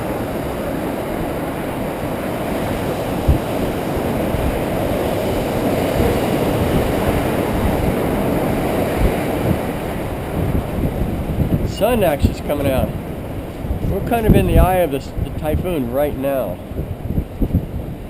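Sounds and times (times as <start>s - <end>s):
road noise: 0.0s - 17.5s
rushing wind: 0.0s - 18.0s.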